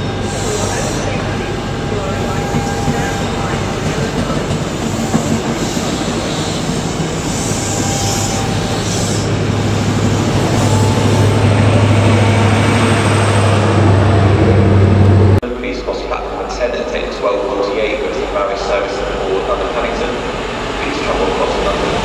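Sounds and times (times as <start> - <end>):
train wheel and rail noise: 0.0 - 22.0.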